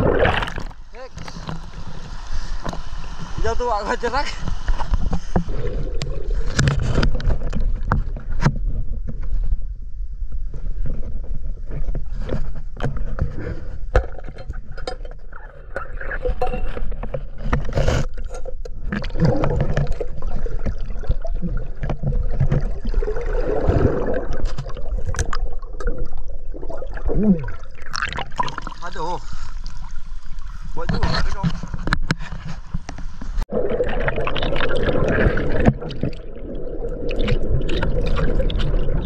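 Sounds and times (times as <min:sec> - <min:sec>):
water sloshing and splashing: 0:00.0 - 0:08.9, 0:11.8 - 0:39.0.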